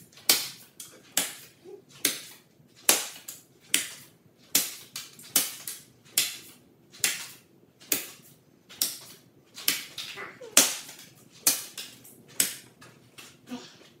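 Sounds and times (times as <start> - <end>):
cards smacking foam target: 0.1 - 13.4.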